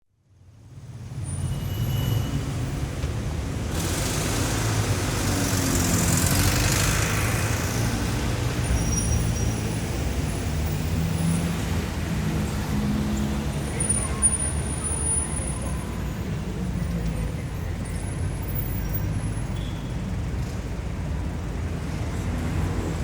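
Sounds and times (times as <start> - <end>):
city traffic: 0.2 - 23.0.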